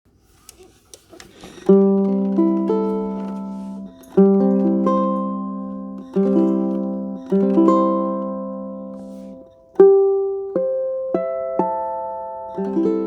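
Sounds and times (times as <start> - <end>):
fingerpicked acoustic guitar chords: 1.6 - 13.0.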